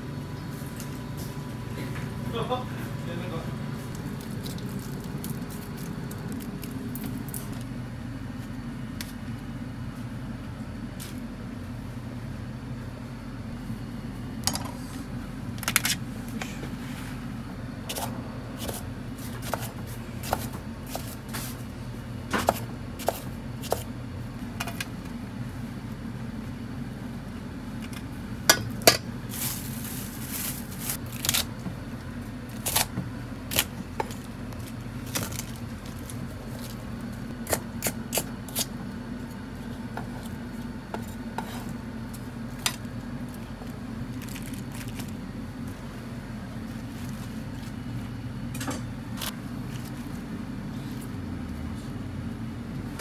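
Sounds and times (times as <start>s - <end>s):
low kitchen hum: 0.0s - 53.0s.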